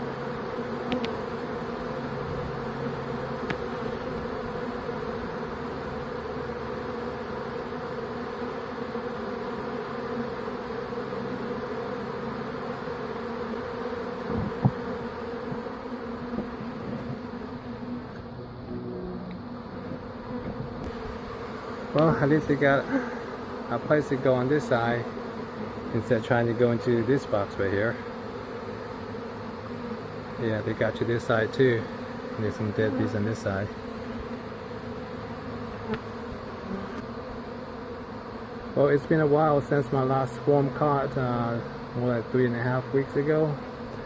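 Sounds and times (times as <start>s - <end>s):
bee swarm buzzing: 0.0s - 44.0s.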